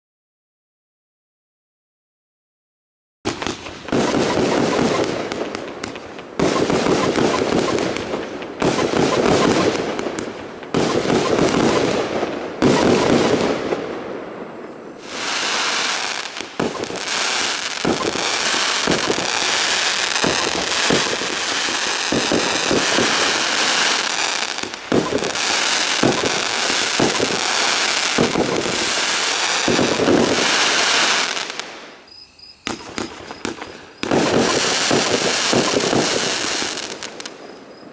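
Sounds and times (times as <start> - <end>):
firework hissing and crackling: 3.3 - 13.6, 15.0 - 37.4
firework shots and bursts: 3.3 - 32.0, 32.6 - 37.9.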